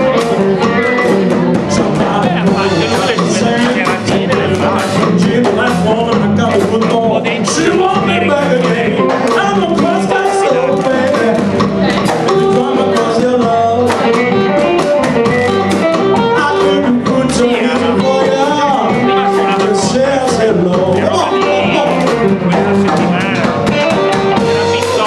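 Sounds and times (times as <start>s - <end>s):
electric guitars: 0.0s - 25.0s
live blues band playing: 0.0s - 25.0s.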